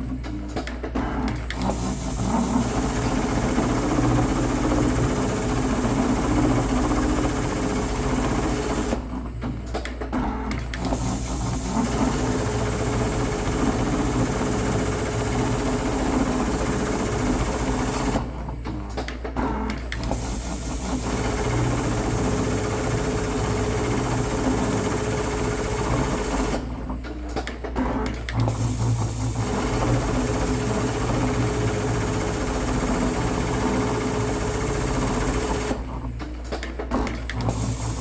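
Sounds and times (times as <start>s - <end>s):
automatic sewing machine stitching: 1.0s - 9.1s, 10.5s - 18.4s, 19.7s - 26.7s, 27.8s - 38.0s.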